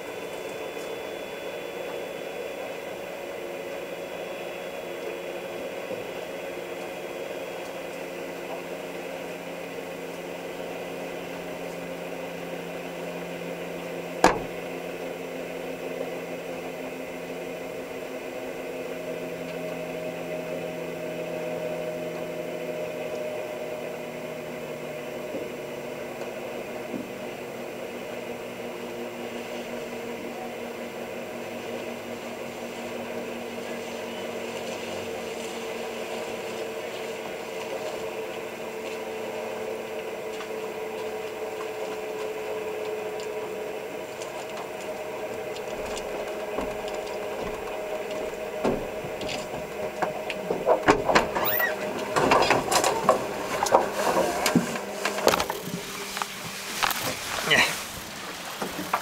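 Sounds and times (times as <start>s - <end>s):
turboprop engine whine: 0.0s - 59.0s.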